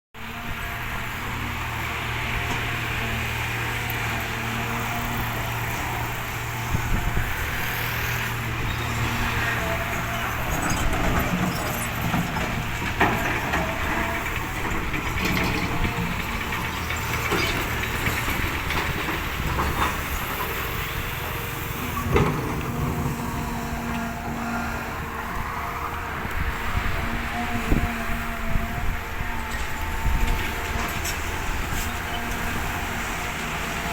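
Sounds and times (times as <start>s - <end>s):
heavy machine diesel engine: 0.2s - 33.9s.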